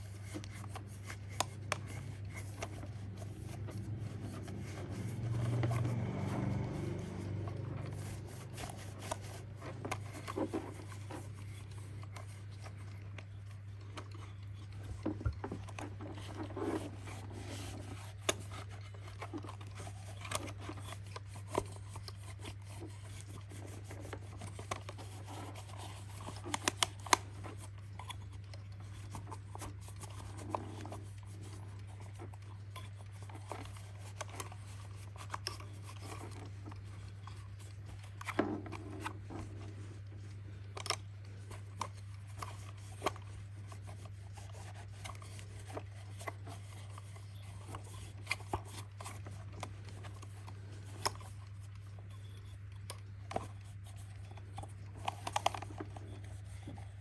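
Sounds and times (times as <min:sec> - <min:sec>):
rubbing and scraping with clicks: 0:00.0 - 0:57.0.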